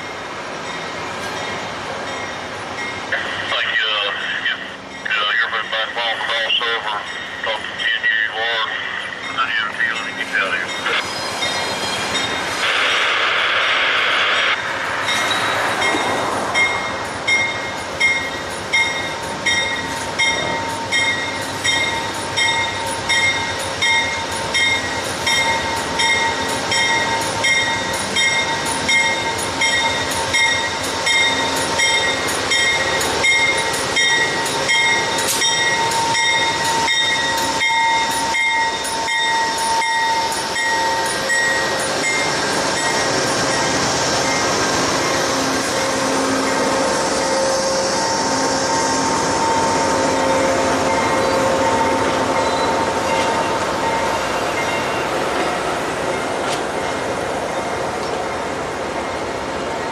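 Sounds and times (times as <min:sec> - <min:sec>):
locomotive bell ringing: 0:00.0 - 0:12.5, 0:15.0 - 0:57.8.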